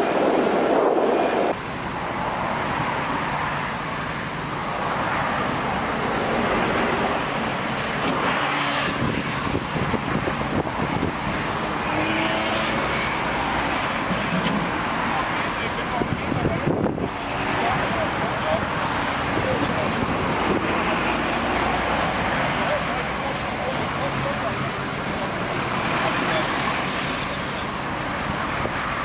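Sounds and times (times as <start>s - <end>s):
engine and road noise: 0.0s - 29.0s.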